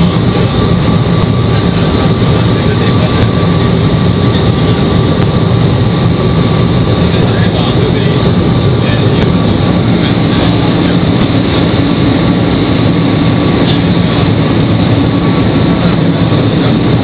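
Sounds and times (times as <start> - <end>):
rush of air: 0.0 - 17.0
train low rumble: 0.0 - 17.0.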